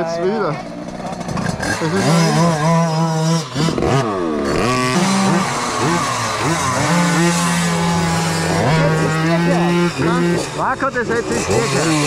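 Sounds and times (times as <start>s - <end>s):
dirt-bike engines idling and revving: 0.0s - 12.0s.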